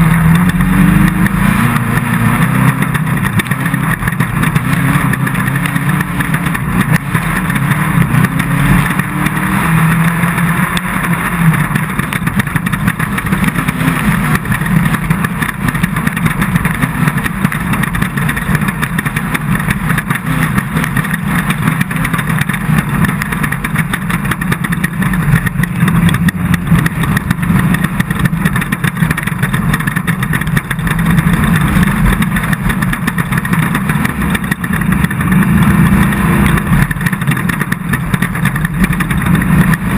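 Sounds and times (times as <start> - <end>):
car rattling over rough ground: 0.0 - 39.9
race car engine revving: 0.0 - 39.9.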